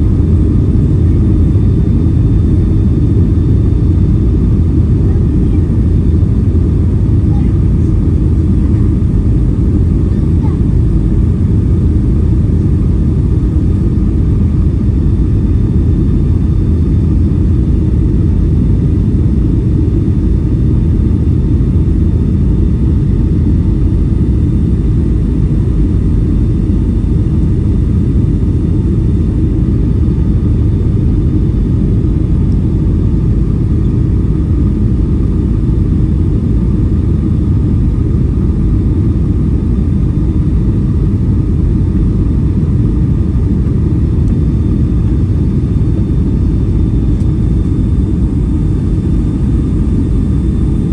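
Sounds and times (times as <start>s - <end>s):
airliner cabin rumble: 0.0s - 50.9s.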